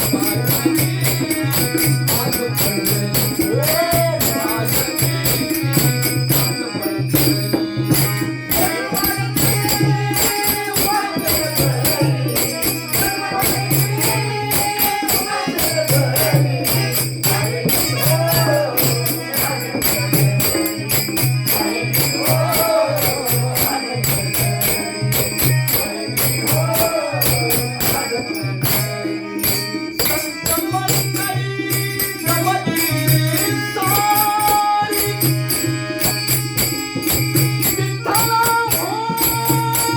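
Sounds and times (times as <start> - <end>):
jingling percussion beat: 0.0 - 39.9.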